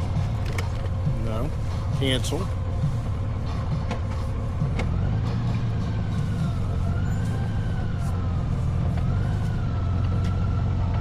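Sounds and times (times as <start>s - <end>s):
engine and wind rumble: 0.0s - 11.0s.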